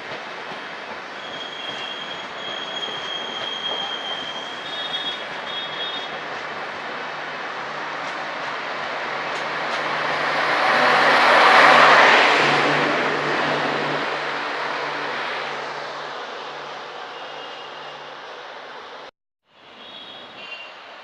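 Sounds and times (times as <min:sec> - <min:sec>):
train passing: 0:00.0 - 0:19.1.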